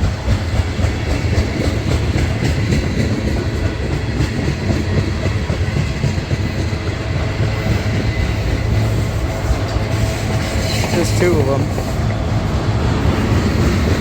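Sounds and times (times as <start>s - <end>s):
steel wheels rumbling on rail: 0.0s - 14.0s
wheels clicking over rail joints: 0.0s - 14.0s.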